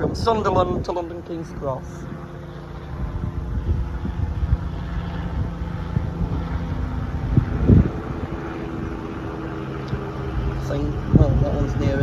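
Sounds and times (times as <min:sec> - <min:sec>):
low steady hum: 0:00.0 - 0:12.0
wind buffeting microphone: 0:00.0 - 0:12.0.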